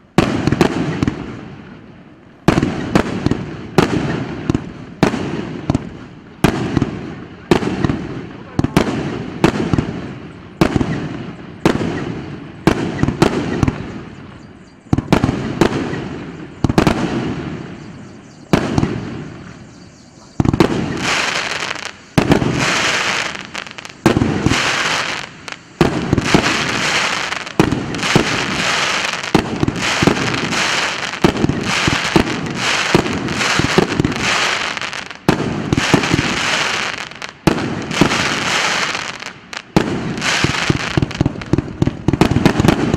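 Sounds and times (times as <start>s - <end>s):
fireworks crackle: 0.0s - 19.8s, 20.4s - 42.9s
fireworks bangs: 0.0s - 42.9s.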